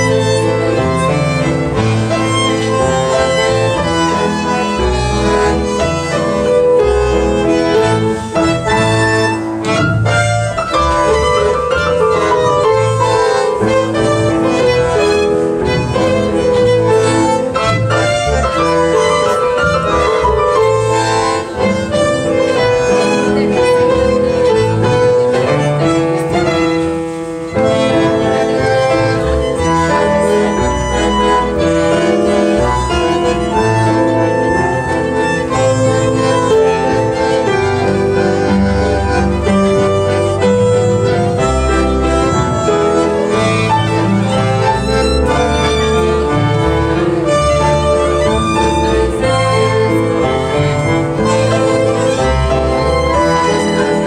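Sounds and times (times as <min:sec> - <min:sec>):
bandoneon: 0:00.0 - 0:54.0
upright piano: 0:00.0 - 0:54.0
violin: 0:00.0 - 0:54.0.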